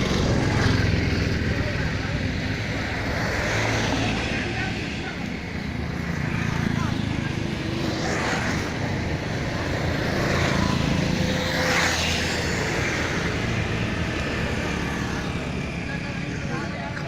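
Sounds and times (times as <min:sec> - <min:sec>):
traffic engine hum and tyre noise: 0:00.0 - 0:17.0
vehicles passing: 0:00.0 - 0:17.0.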